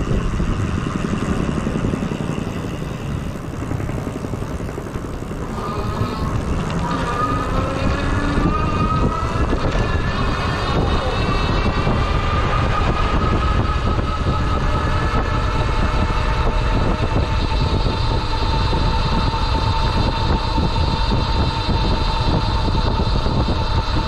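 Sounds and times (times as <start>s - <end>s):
electric motor whining: 0.0s - 24.0s
wind and road rumble: 0.0s - 24.0s.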